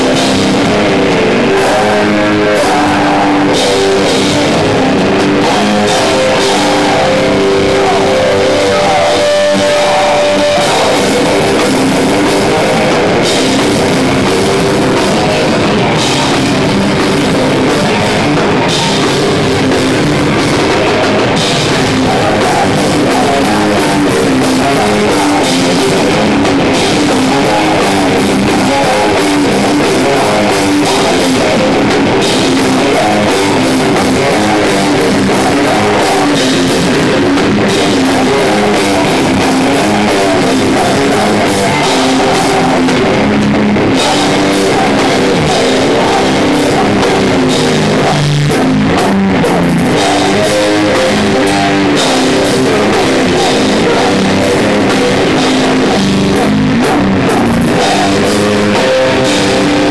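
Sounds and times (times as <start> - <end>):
distorted electric guitar: 0.0 - 59.9
drum kit with crashing cymbals: 0.0 - 59.9.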